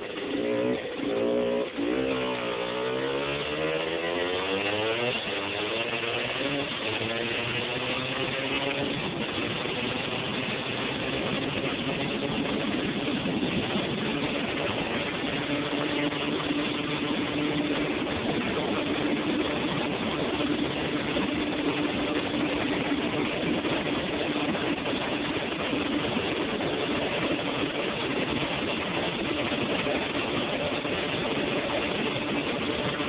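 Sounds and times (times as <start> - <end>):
two-stroke engine running: 0.0 - 33.0
wind rushing over microphone: 0.0 - 33.0.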